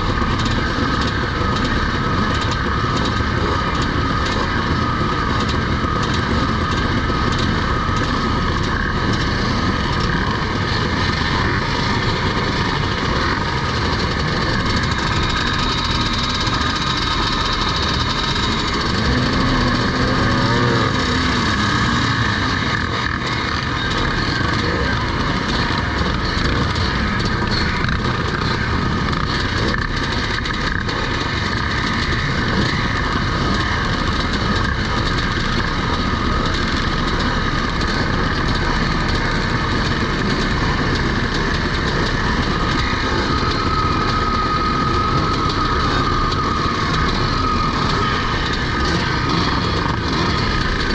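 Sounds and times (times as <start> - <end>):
motocross bike engines running: 0.0 - 50.9.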